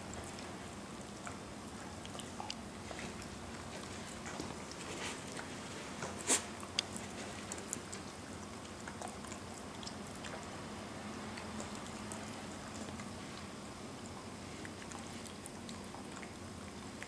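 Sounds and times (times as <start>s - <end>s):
puppy licking and chewing: 0.0s - 17.0s.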